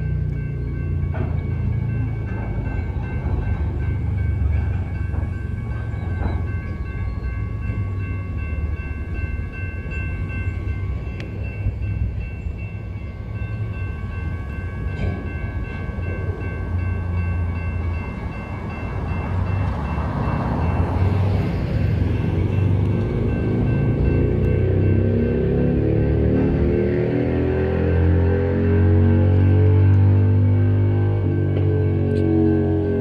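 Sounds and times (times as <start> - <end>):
freight train rumbling: 0.0 - 33.0.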